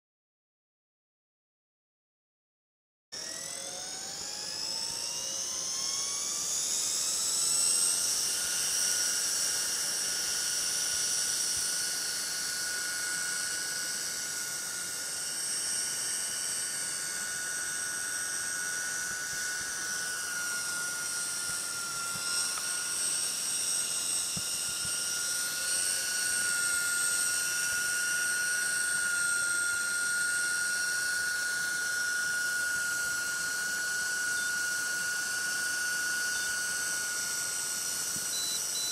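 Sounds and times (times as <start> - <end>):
rc helicopter rotor whine: 3.2 - 38.9.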